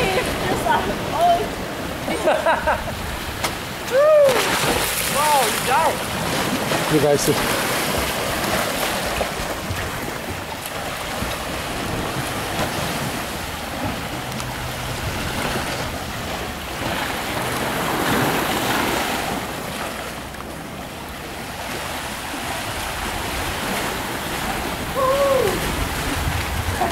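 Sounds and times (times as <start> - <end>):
wind buffeting microphone: 0.0 - 19.6, 21.7 - 26.9
sea water lapping: 0.0 - 26.9.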